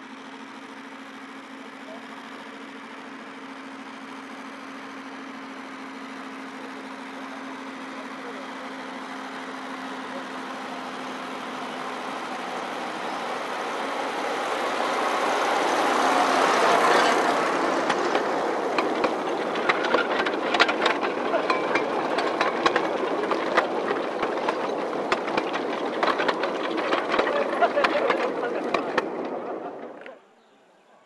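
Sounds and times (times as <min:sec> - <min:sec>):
wheels clattering on rails: 0:00.0 - 0:30.6
diesel locomotive engine running: 0:00.0 - 0:30.9.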